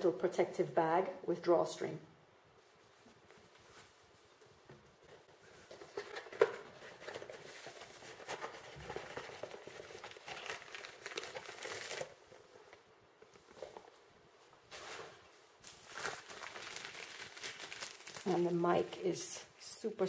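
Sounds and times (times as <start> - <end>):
cardboard and plastic rustling: 2.8 - 18.9.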